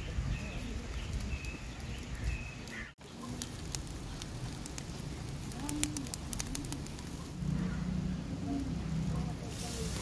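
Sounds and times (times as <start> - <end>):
cooking fire crackling: 0.0 - 10.0.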